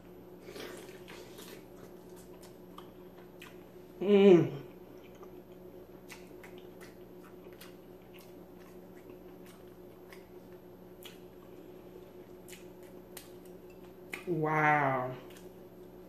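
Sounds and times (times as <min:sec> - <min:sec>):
steady low hum: 0:00.0 - 0:16.0
person chewing: 0:00.4 - 0:03.8, 0:04.7 - 0:14.4, 0:15.1 - 0:16.0.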